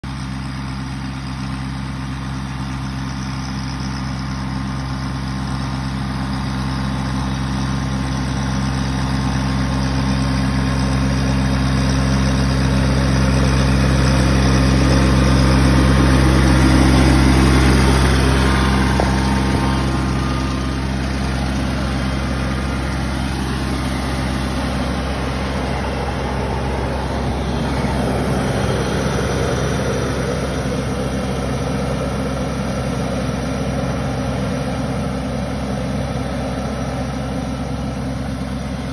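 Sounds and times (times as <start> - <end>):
tractor engine running: 0.0 - 38.9
sprayer fan blowing: 0.1 - 38.9.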